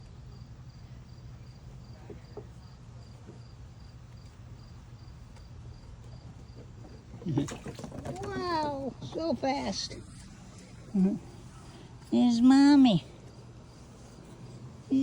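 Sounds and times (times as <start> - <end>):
cricket chirping: 0.0 - 15.0
low steady hum: 0.0 - 15.0.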